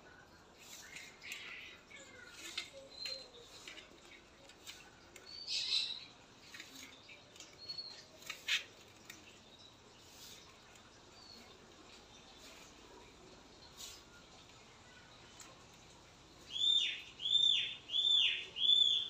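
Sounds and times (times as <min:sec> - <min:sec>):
small bird chirping: 0:00.4 - 0:19.0.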